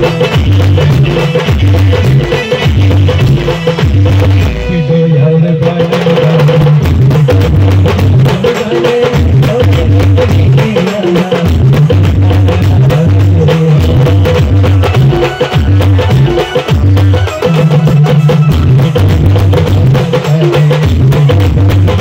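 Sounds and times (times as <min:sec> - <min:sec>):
bass line: 0:00.0 - 0:08.4, 0:11.5 - 0:22.0
steady drum beat: 0:00.0 - 0:22.0.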